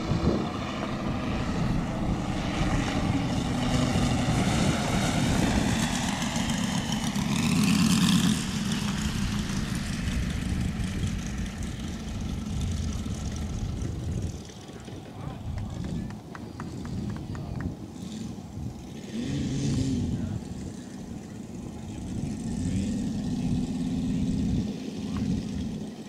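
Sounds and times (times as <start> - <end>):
model plane propeller engine: 0.0 - 26.0.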